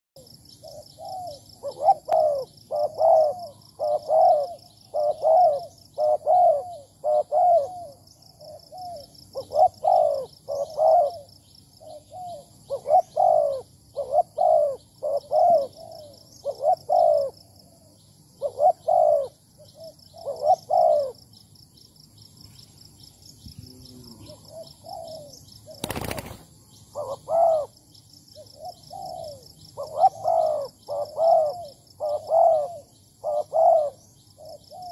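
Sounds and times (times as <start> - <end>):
high pulsing insect trill: 0.2 - 34.9
doves cooing: 0.6 - 21.2, 23.7 - 27.8, 28.4 - 34.9.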